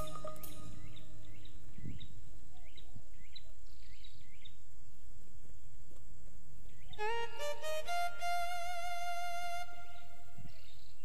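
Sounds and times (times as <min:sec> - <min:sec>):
bird chirping: 0:00.0 - 0:04.6, 0:06.7 - 0:11.0.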